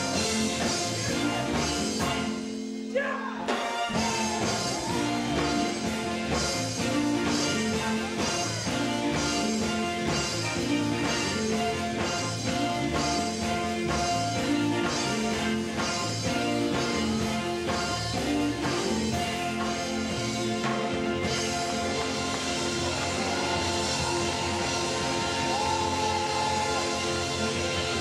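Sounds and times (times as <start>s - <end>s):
drum kit steady beat: 0.0s - 28.0s
electric guitar: 0.0s - 28.0s.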